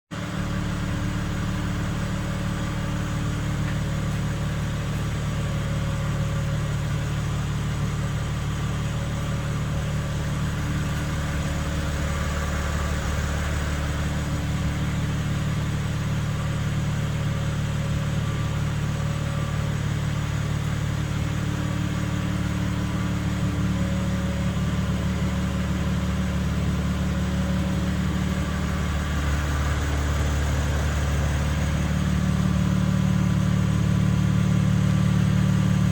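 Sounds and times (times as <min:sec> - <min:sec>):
car low hum: 0:00.1 - 0:35.9.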